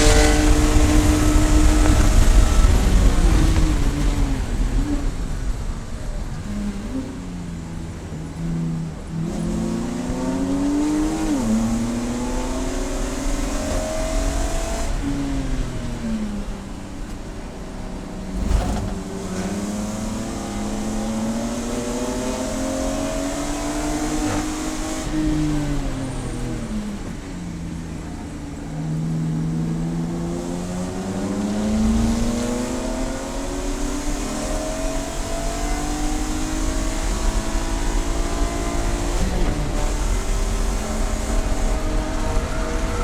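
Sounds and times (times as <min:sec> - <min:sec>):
race car engine revving: 0:00.0 - 0:43.0.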